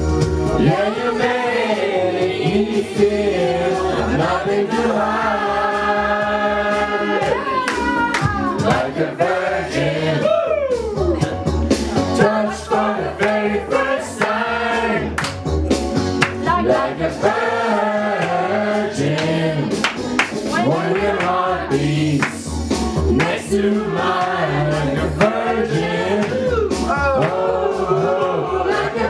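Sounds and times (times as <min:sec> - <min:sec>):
low musical backing: 0:00.0 - 0:29.0
group of voices singing: 0:00.4 - 0:15.4, 0:16.1 - 0:29.0.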